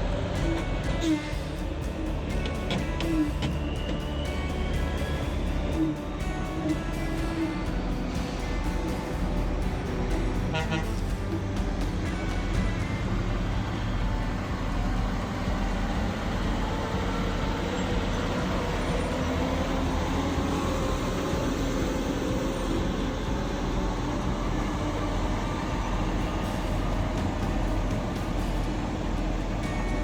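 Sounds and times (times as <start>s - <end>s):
road and mechanical noise: 0.0s - 30.0s
truck engine rumbling: 0.0s - 30.0s.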